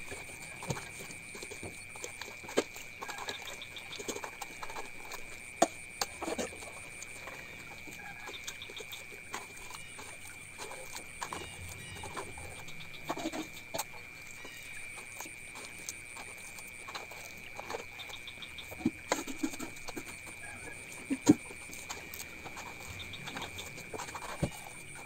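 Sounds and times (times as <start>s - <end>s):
hands squeezing coconut in bowls: 0.0s - 25.0s.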